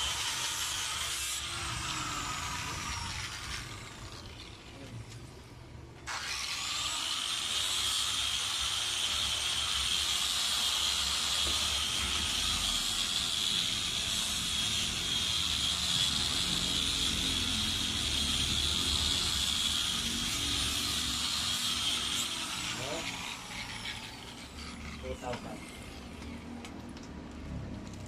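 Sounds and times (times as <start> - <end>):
angle grinder motor whine: 0.0 - 5.3, 6.0 - 26.9.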